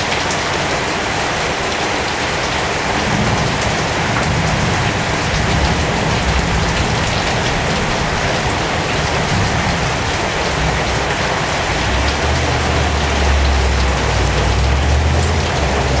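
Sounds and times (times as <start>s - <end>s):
rain pattering on leaves: 0.0s - 16.0s.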